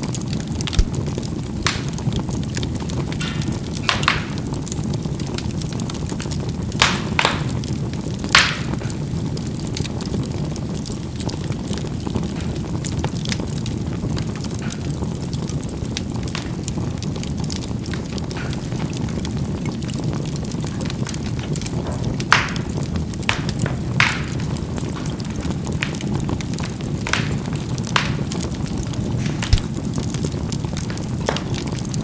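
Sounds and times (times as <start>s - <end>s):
charcoal crackling and popping: 0.0s - 32.0s
fire rumbling: 0.0s - 32.0s.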